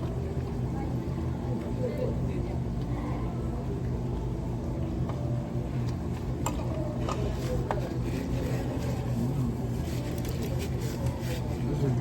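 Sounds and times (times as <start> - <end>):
dining room hum: 0.0 - 12.0.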